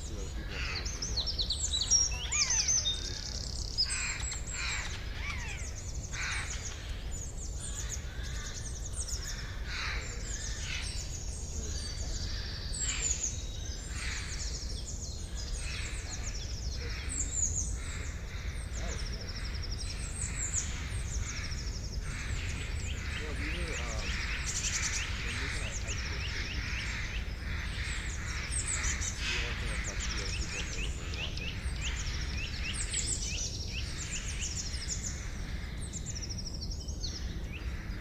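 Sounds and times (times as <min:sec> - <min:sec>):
birds chirping and trilling: 0:00.0 - 0:38.0
lower rough bird calls: 0:00.0 - 0:38.0.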